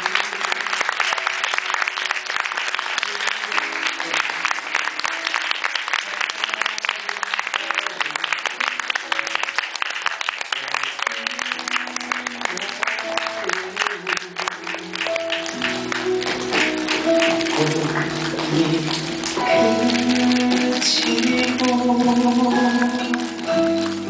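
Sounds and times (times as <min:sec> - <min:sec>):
audience applauding: 0:00.0 - 0:24.0
background music held notes: 0:00.0 - 0:24.0.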